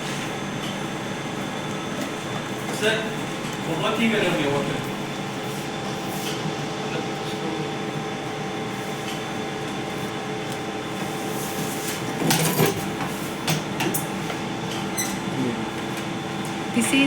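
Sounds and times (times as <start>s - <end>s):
mechanical equipment hum: 0.0s - 17.0s.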